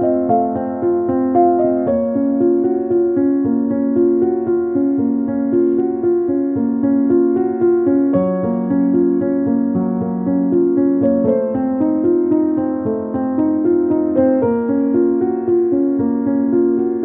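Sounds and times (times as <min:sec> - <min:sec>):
piano-like keyboard music: 0:00.0 - 0:17.0.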